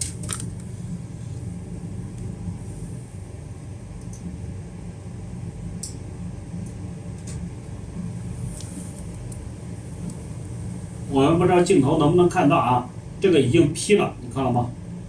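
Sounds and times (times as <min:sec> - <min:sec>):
low fan hum: 0:00.0 - 0:15.0.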